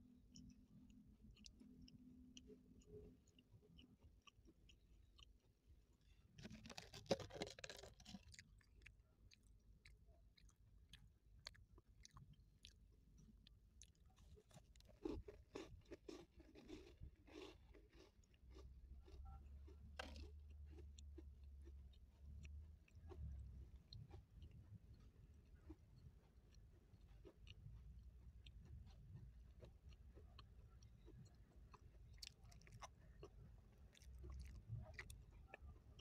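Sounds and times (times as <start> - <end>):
chewing crunchy cookie: 0.0 - 36.0.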